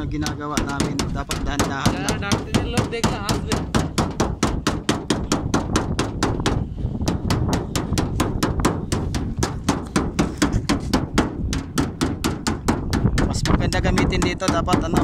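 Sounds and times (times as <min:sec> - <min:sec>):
hammer tapping sheet metal: 0:00.0 - 0:15.0.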